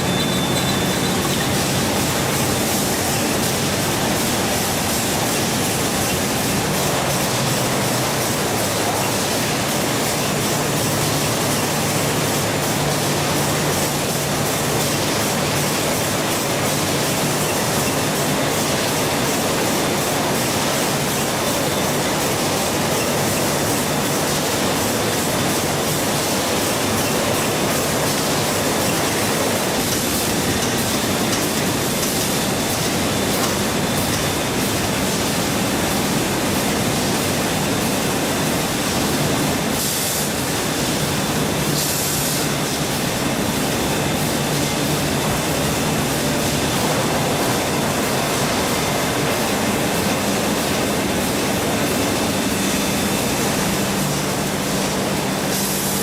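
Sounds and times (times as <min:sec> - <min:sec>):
processing plant machinery din: 0:00.0 - 0:56.0.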